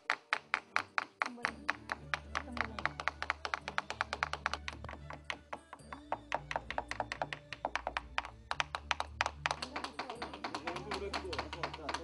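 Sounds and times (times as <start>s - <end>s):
rapid sharp tapping: 0.0s - 12.0s
soft background music: 0.0s - 12.0s.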